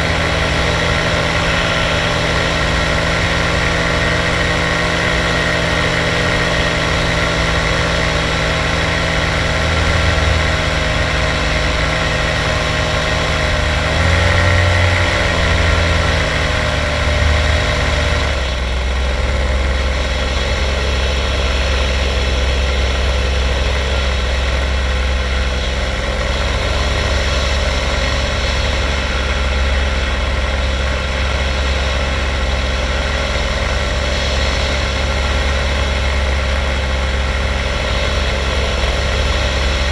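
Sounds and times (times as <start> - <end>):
small aircraft engine and propeller: 0.0 - 39.9.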